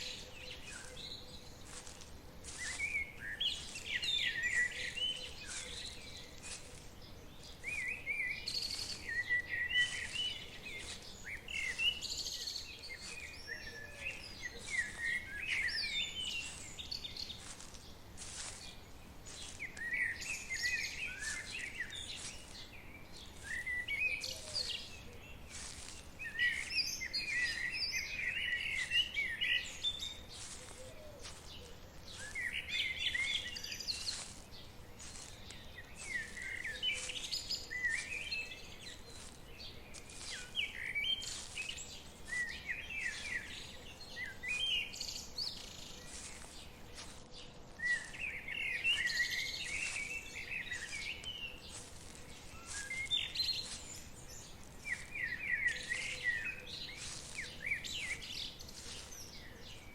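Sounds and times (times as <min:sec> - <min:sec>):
songbirds chirping and warbling: 0:00.0 - 0:59.9.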